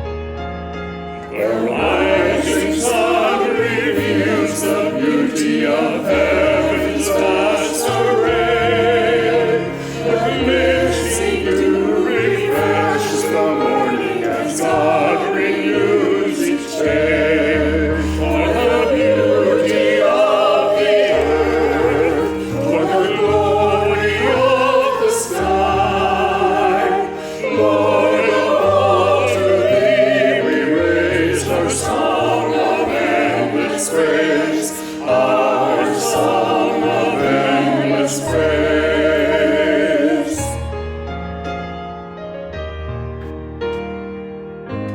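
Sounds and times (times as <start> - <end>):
voices singing sacred song: 1.2 - 40.7.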